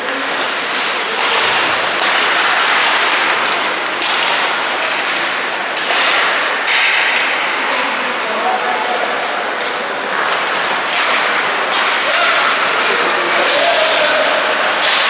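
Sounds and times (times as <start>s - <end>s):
knocks of sticks and puck: 0.0s - 15.0s.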